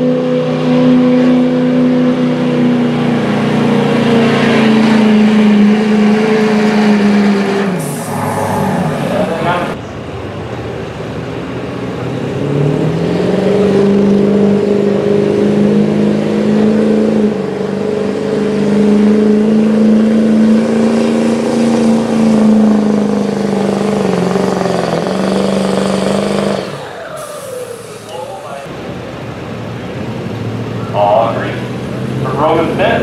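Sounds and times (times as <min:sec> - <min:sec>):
diesel truck engine at full throttle: 0:00.0 - 0:33.0.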